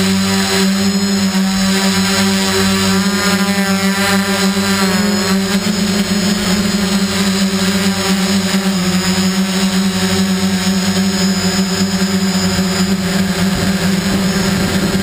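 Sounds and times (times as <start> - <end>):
drone motors whining hum: 0.0 - 15.0.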